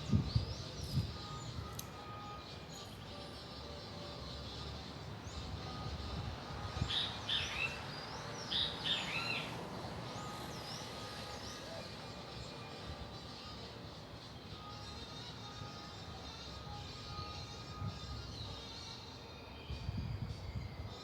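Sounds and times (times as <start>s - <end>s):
birds chirping: 0.0s - 19.0s
steady background noise: 0.0s - 21.0s.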